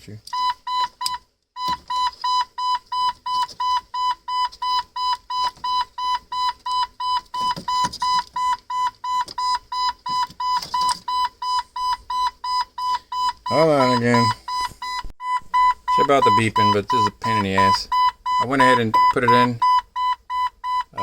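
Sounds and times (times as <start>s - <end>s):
car warning chime beeping: 0.3s - 21.0s.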